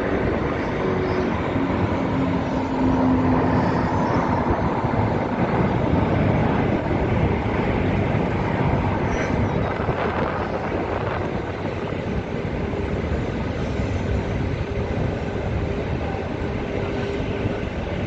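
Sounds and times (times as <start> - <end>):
distant jet rumble: 0.0 - 18.0.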